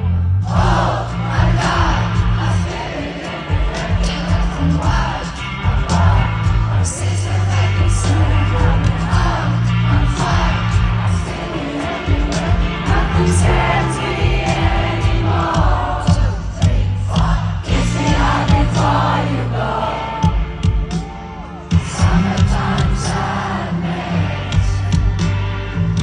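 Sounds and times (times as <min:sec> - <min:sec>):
band playing slow pop: 0:00.0 - 0:26.0
crowd singing along: 0:00.0 - 0:26.0.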